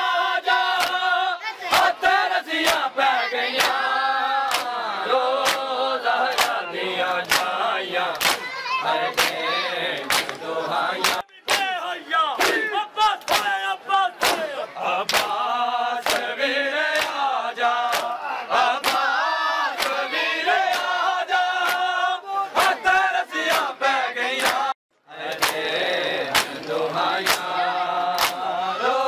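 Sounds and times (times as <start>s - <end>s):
men chanting: 0.0s - 29.0s
hands slapping chests in unison: 0.6s - 28.7s.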